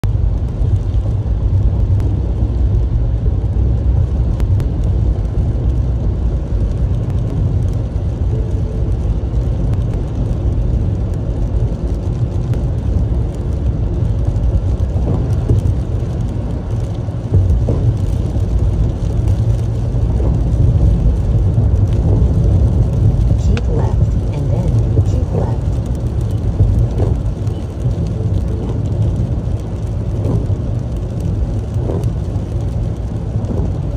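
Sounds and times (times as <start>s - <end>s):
car engine and tyres on wet road: 0.0s - 33.9s.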